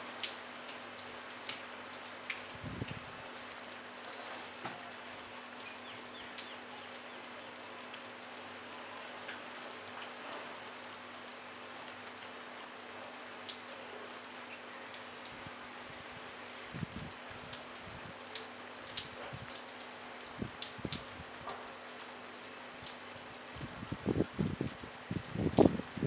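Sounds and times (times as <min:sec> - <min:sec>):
light rain on brick and rooftops: 0:00.0 - 0:26.0.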